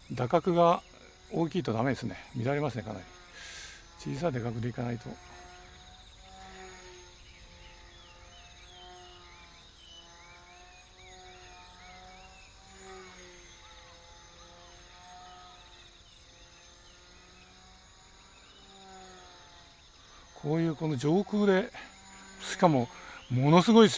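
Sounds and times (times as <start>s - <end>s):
model plane motor buzzing: 0.0s - 23.9s.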